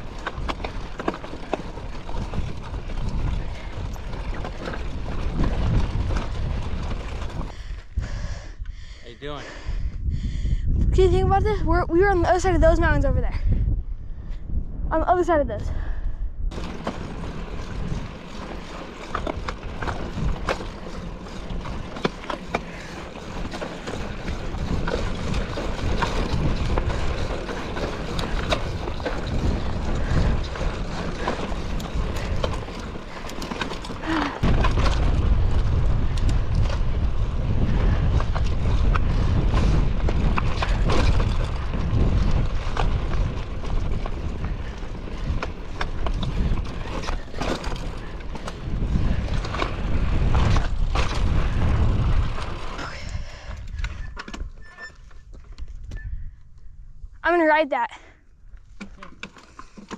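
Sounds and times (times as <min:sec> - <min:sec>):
bike tyres crunching on dirt: 0:00.0 - 0:08.0, 0:16.5 - 0:57.4, 0:58.4 - 0:59.9
bike rattling over rocks: 0:00.0 - 0:08.1, 0:16.5 - 0:57.7, 0:58.4 - 0:59.9
wind rumble on microphone: 0:00.0 - 0:57.3.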